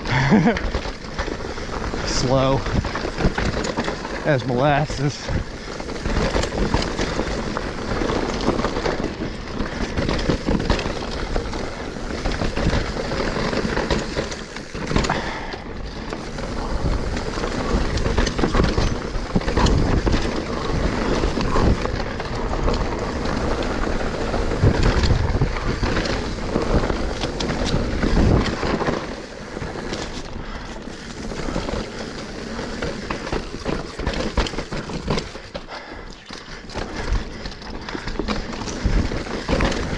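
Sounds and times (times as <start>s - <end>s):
bike rattling: 0.0s - 39.9s
bike tyres crunching over dirt: 0.0s - 39.9s.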